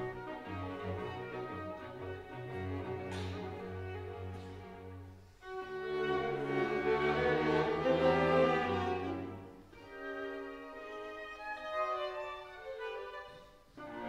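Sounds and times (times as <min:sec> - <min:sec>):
string quartet playing: 0:00.0 - 0:14.0.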